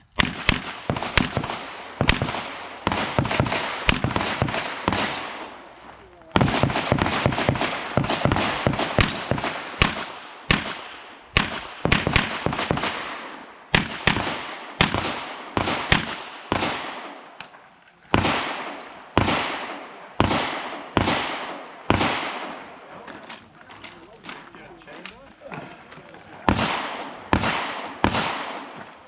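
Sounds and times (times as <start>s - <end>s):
gunshots with echo: 0.1s - 17.4s, 18.1s - 23.3s, 26.4s - 29.0s.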